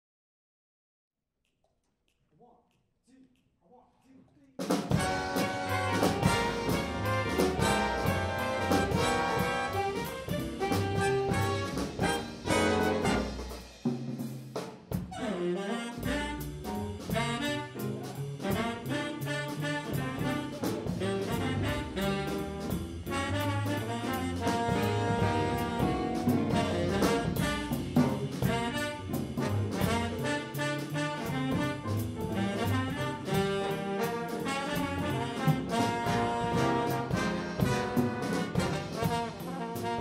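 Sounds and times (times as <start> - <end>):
big band jazz playing: 4.6 - 40.0.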